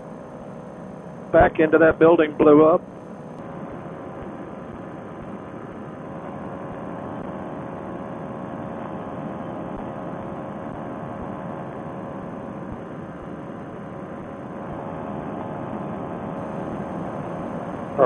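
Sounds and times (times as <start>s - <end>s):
muffled engine and propeller drone: 0.0s - 18.0s.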